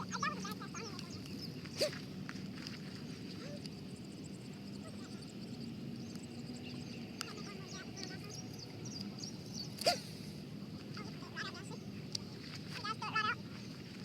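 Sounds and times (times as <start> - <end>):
low background hum: 0.0 - 14.0
small birds chirping: 0.0 - 14.0.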